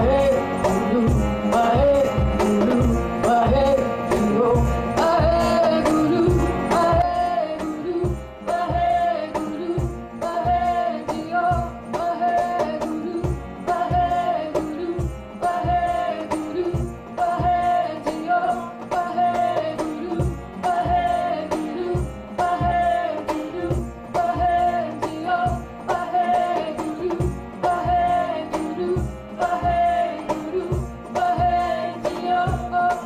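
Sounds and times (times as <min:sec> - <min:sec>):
guitar: 0:00.0 - 0:33.0
steady drum beat: 0:00.0 - 0:33.0
woman singing: 0:00.0 - 0:33.0.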